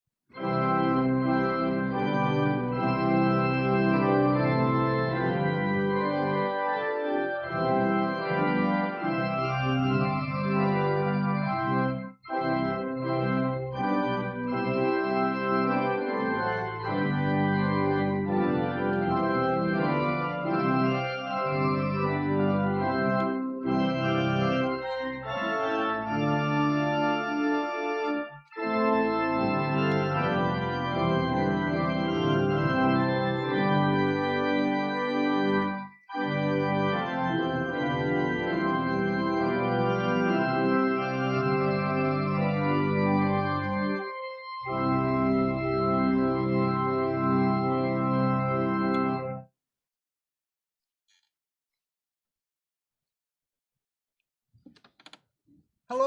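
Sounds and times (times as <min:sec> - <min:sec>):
church organ chords: 0:00.3 - 0:49.5.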